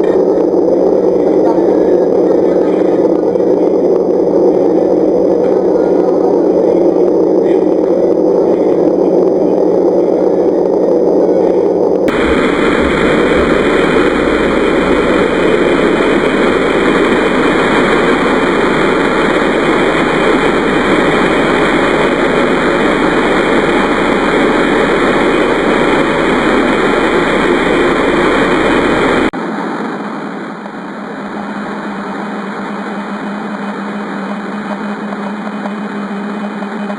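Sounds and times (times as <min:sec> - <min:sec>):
dense rushing noise: 0:00.0 - 0:36.9.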